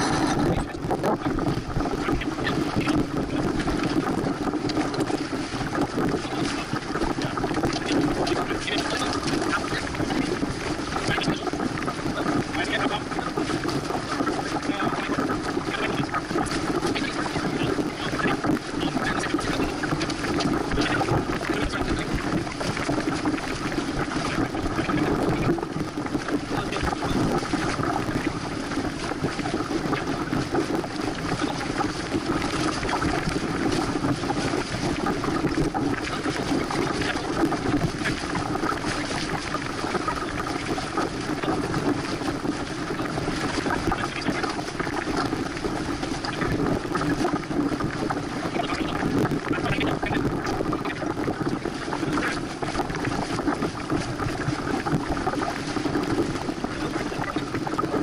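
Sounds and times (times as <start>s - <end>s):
water rushing along a hull: 0.0s - 58.0s
wind on the microphone: 0.0s - 58.0s.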